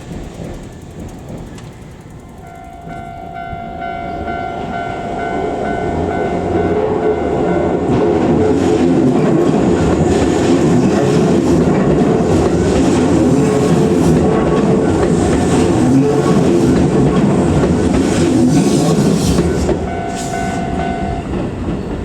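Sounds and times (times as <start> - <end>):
level crossing warning bell: 0.0 - 11.0, 12.7 - 22.0
electric train passing: 0.0 - 22.0
train wheels clicking over rail joints: 0.0 - 22.0.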